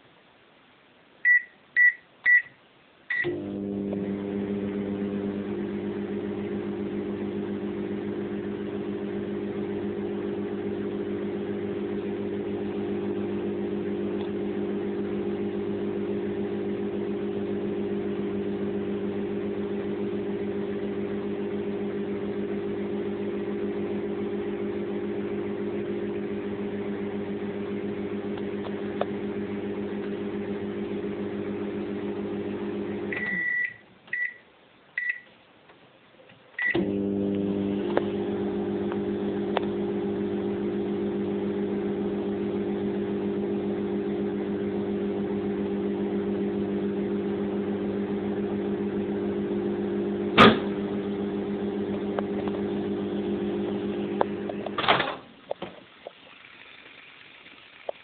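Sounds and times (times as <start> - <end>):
microwave oven humming: 3.2 - 33.7, 36.6 - 55.0.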